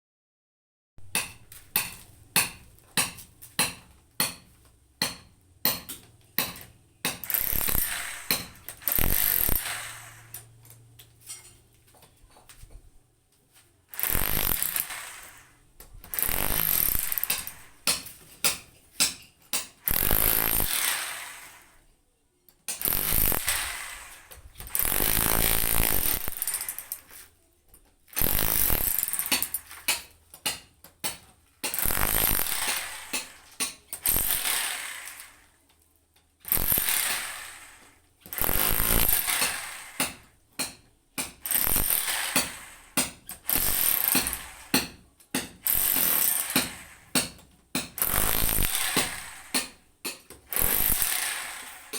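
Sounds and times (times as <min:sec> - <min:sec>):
rotary hammer chiseling floor: 0:01.0 - 0:12.8, 0:13.9 - 0:21.8, 0:22.7 - 0:35.6, 0:36.4 - 0:51.9.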